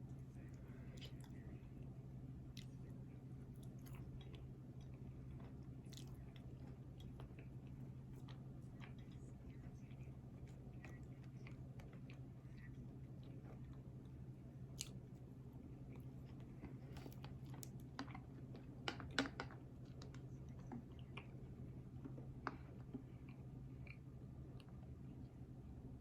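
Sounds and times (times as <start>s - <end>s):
person chewing food: 0.0s - 19.1s, 19.8s - 24.8s
steady low hum: 0.0s - 26.0s.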